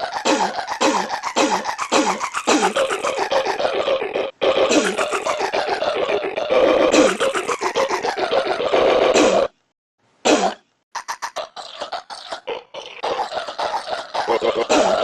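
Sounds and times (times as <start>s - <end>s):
belching music remix: 0.0s - 9.5s, 11.0s - 15.0s.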